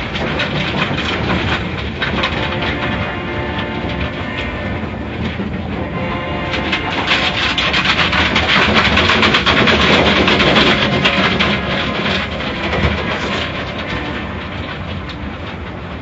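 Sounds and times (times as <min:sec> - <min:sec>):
automatic car wash rushing: 0:00.0 - 0:16.0.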